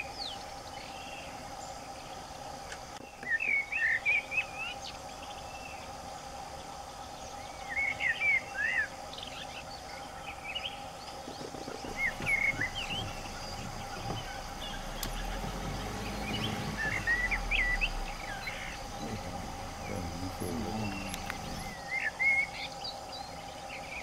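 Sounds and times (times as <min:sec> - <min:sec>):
birds chirping: 0:00.0 - 0:24.0
faint background hum: 0:00.0 - 0:24.0.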